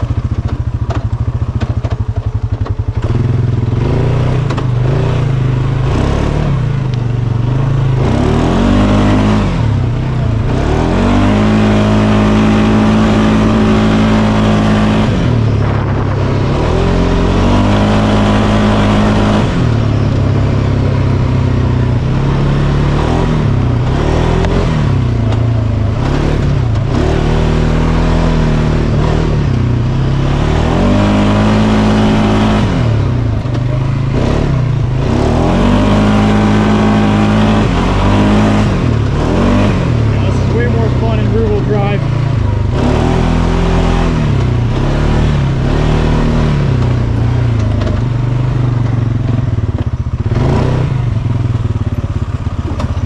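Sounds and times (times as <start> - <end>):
engine revving up and down: 2.6 - 53.0.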